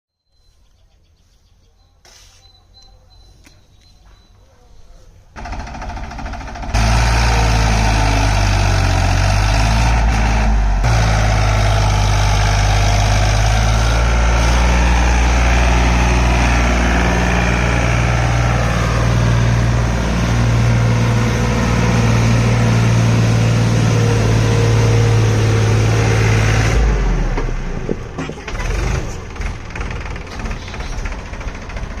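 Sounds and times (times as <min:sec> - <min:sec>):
tractor diesel engine running: 0:05.3 - 0:32.0.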